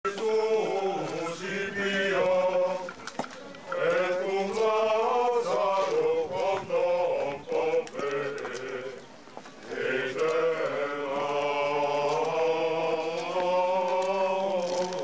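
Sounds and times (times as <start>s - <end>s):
men chanting in unison: 0.1s - 3.0s, 3.7s - 9.0s, 9.7s - 15.0s.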